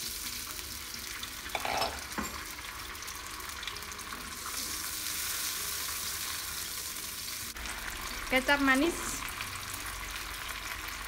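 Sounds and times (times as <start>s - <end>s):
sauce sizzling in a wok: 0.0s - 11.0s.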